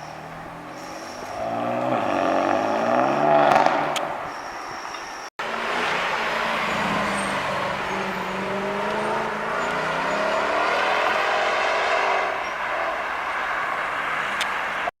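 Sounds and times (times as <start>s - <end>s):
car engine accelerating: 0.0s - 4.1s, 5.4s - 14.9s.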